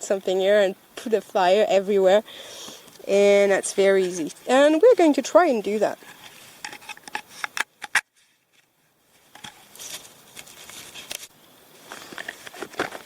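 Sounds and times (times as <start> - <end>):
rustling: 1.0 - 13.0.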